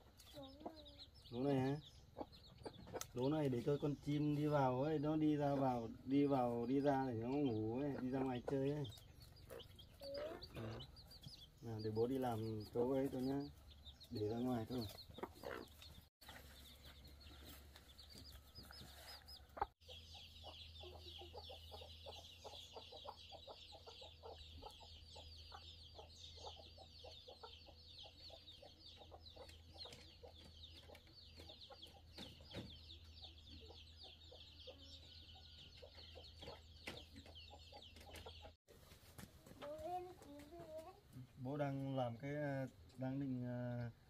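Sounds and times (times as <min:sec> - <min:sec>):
flock of birds chirping: 0:00.0 - 0:44.0
low clucking bird calls: 0:00.0 - 0:44.0.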